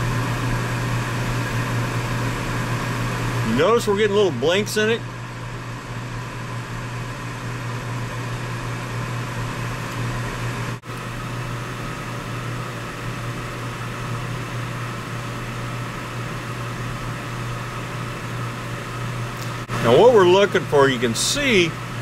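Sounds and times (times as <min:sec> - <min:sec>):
gas furnace humming and rushing: 0:00.0 - 0:22.0.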